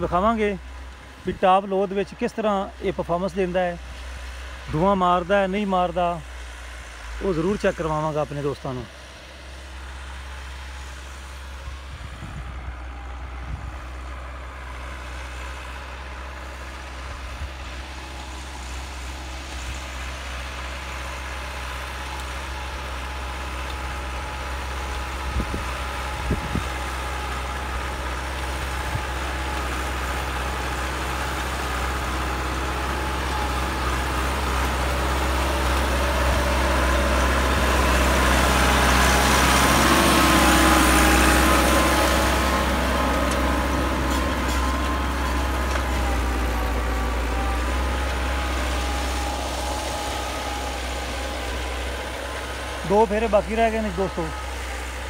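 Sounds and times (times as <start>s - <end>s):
tractor diesel engine: 0.0s - 55.0s.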